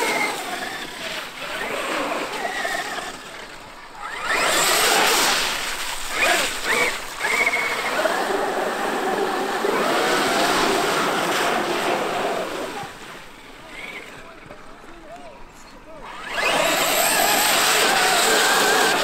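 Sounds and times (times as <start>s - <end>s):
electric motor whine: 0.0s - 12.8s, 16.1s - 19.0s.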